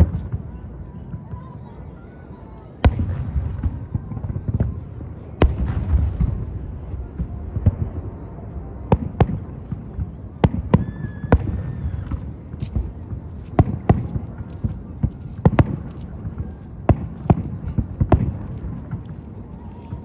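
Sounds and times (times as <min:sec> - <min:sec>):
fireworks bursting with bangs: 0:02.4 - 0:20.0.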